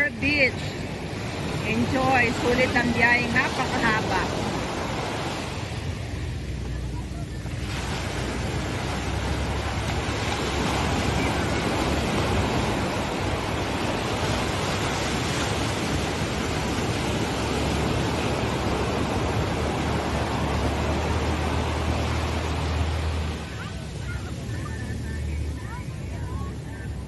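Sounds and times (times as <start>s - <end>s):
ocean surf breaking: 0.0s - 27.0s.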